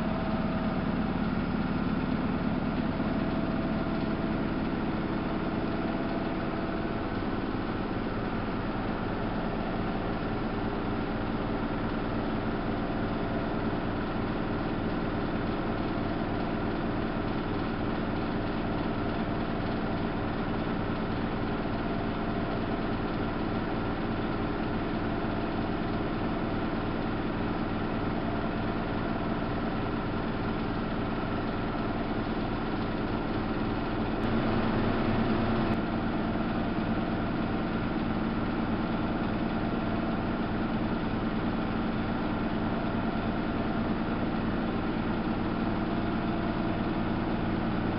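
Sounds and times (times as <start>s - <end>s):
washing machine motor hum: 0.0s - 47.9s.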